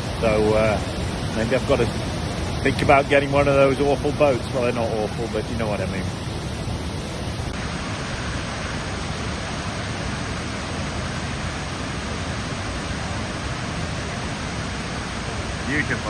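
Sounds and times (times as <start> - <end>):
large waterfall rushing: 0.0 - 16.0.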